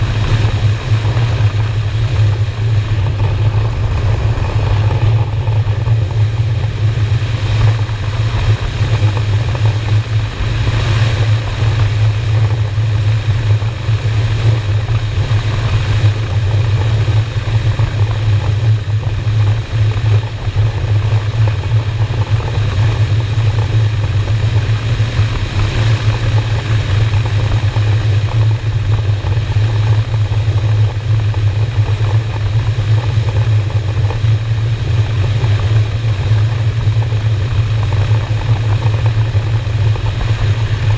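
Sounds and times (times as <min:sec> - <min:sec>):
motorcycle engine droning: 0:00.0 - 0:40.9
wind and road noise: 0:00.0 - 0:40.9.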